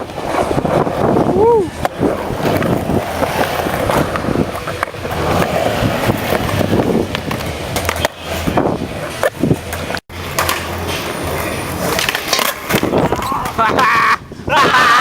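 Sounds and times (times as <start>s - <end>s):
skateboard rolling on hard ground: 0.0s - 14.4s.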